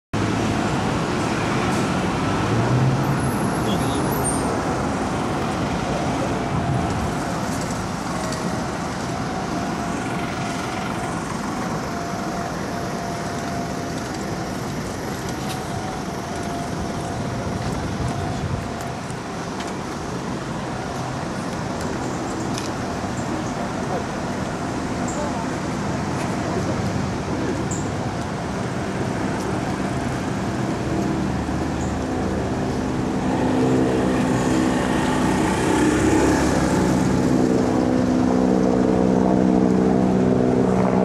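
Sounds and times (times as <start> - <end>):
road traffic passing: 0.2 - 41.0.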